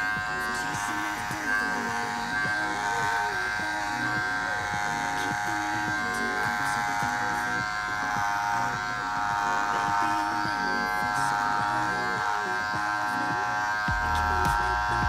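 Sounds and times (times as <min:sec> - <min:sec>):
electric hair clippers cutting hair: 0:00.0 - 0:15.0.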